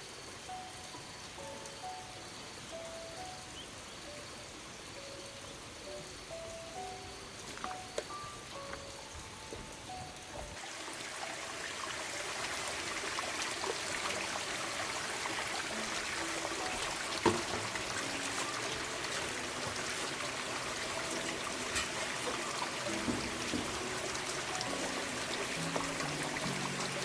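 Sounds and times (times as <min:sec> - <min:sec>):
water running and trickling: 0:00.0 - 0:27.0.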